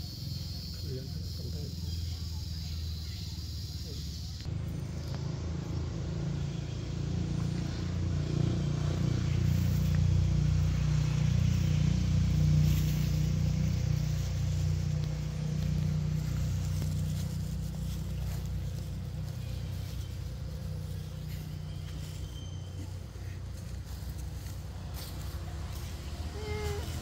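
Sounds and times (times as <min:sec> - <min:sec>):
low steady rumble: 0:04.2 - 0:27.0.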